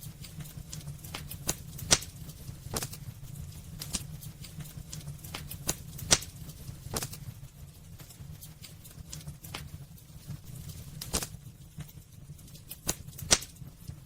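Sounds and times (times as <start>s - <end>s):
burning logs crackling and popping: 0.0s - 14.0s
low rumble of flames: 0.0s - 14.0s.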